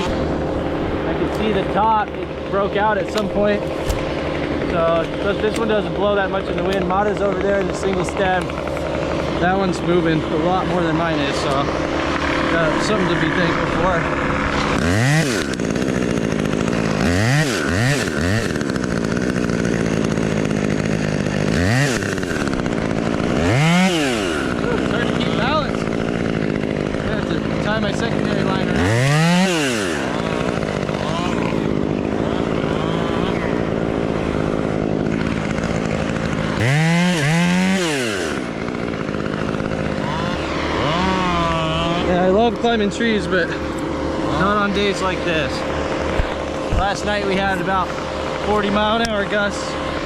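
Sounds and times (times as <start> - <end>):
chainsaw idling: 0.0 - 50.0
chainsaw revving: 0.0 - 50.0.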